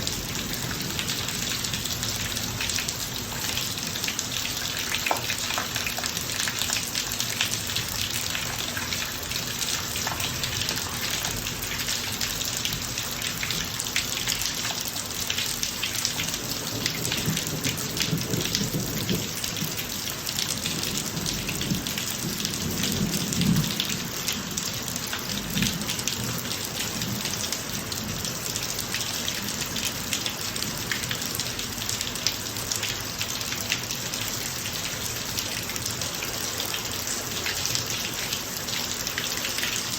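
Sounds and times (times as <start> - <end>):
rain falling on pavement: 0.0 - 39.9.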